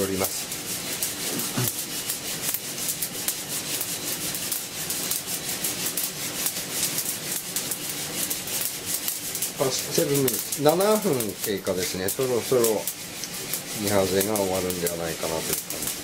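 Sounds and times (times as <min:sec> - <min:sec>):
coffee beans rattling in roaster: 0:00.0 - 0:16.0.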